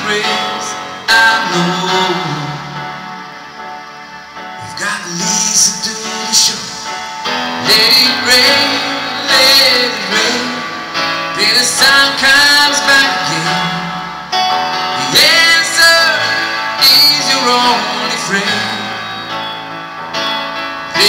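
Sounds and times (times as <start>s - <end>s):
man singing into a microphone: 0.0s - 3.0s, 4.6s - 14.3s, 15.0s - 19.5s
electronic keyboard: 0.0s - 21.0s.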